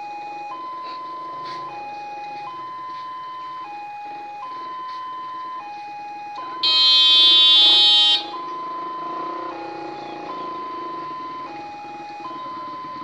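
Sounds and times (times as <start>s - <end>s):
two-tone crossing alarm: 0.0s - 13.0s.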